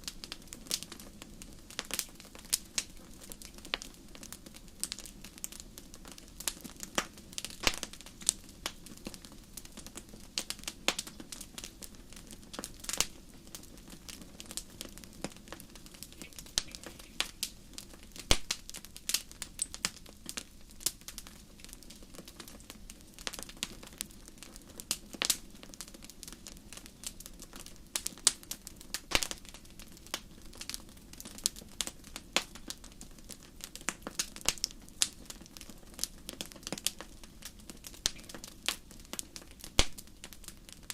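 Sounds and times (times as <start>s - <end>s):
flames burning: 0.0s - 40.9s
wood fire crackling and popping: 0.0s - 40.9s.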